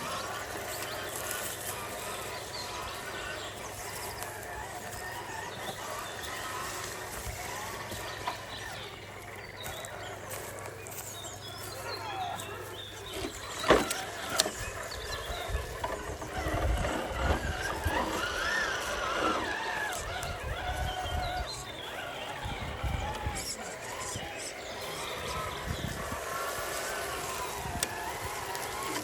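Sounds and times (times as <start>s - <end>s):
electric motor whining: 0.0s - 29.0s.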